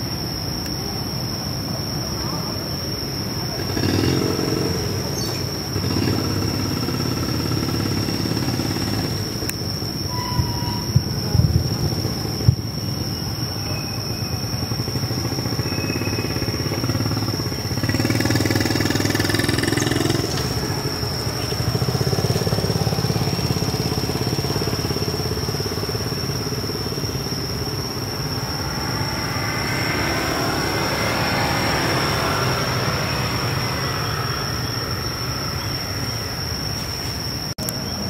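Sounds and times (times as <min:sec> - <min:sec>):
vehicle engines passing: 0:03.2 - 0:10.0, 0:14.1 - 0:38.0.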